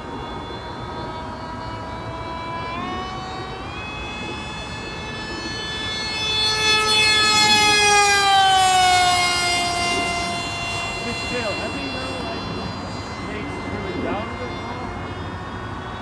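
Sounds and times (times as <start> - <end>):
electric model plane motor whine: 0.0 - 16.0.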